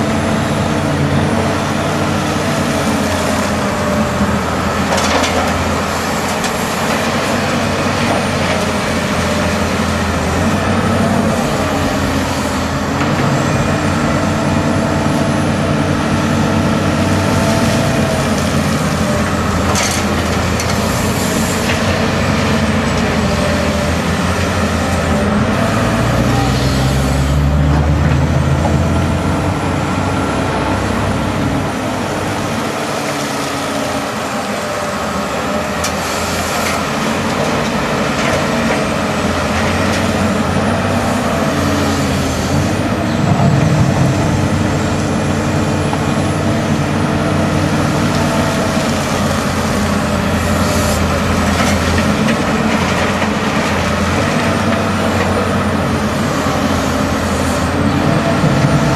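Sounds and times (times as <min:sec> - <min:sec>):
excavator diesel engine under load: 0:00.0 - 0:58.9.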